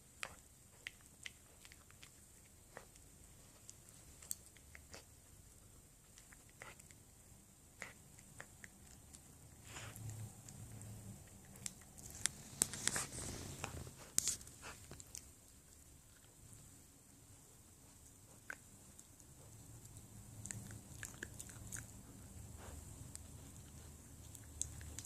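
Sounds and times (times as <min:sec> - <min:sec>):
dog nibbling clicks and smacks: 0:00.2 - 0:05.4, 0:06.0 - 0:16.7, 0:17.9 - 0:25.0.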